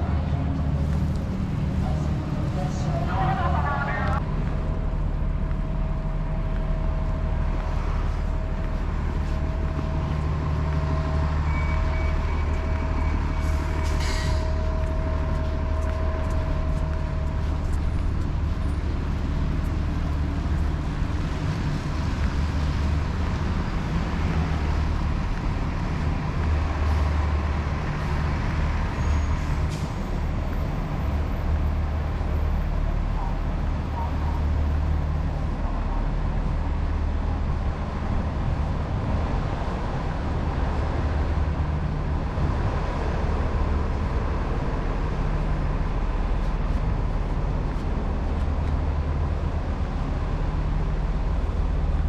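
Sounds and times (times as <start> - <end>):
heavy vehicle engine running: 0.0 - 52.0.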